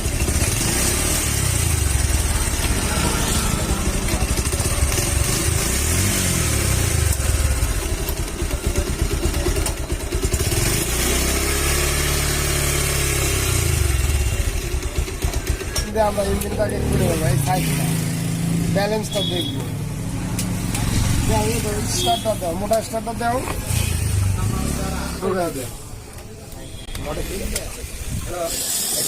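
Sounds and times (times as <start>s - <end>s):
motorcycle engine idling: 0.0s - 27.2s.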